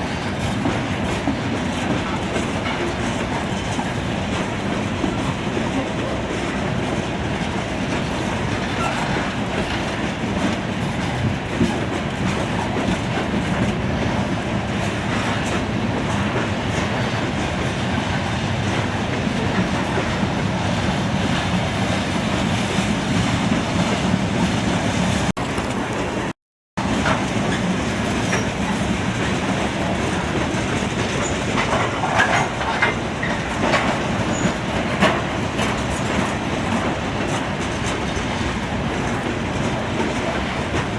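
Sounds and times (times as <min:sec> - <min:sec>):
train wheels rumbling on rails: 0:00.0 - 0:40.9
wheels clacking over rail joints: 0:00.0 - 0:40.9.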